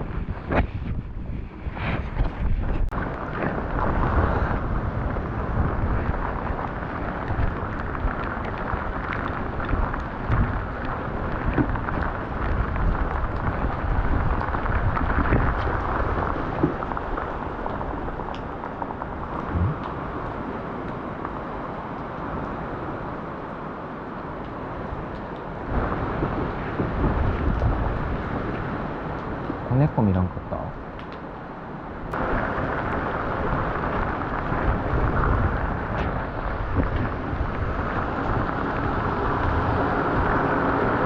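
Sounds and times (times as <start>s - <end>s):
rain: 0.0s - 41.0s
wind buffeting microphone: 0.0s - 41.0s.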